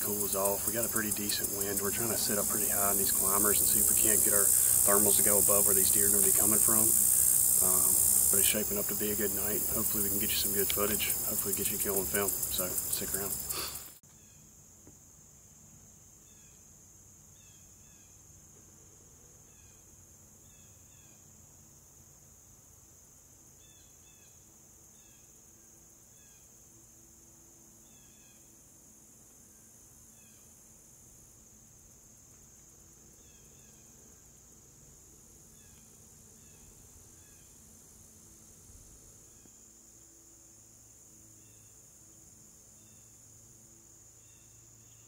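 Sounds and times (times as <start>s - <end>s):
insect chirps: 0.0s - 45.0s
insects droning: 0.0s - 45.0s.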